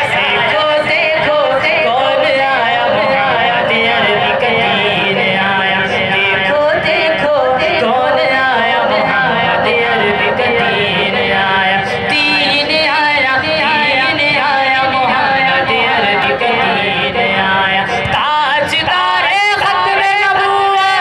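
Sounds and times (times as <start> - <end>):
people singing loudly: 0.0 - 21.0.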